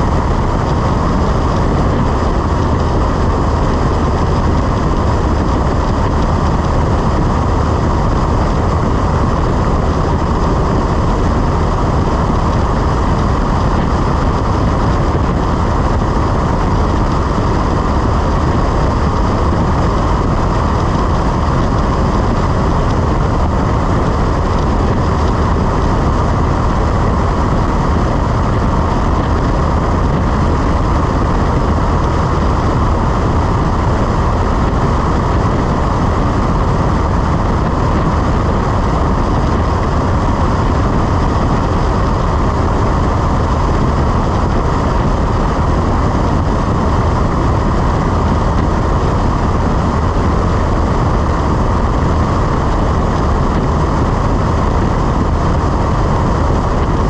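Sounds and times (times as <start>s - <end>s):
propeller plane engine droning: 0.0s - 57.0s
rushing wind: 0.0s - 57.0s.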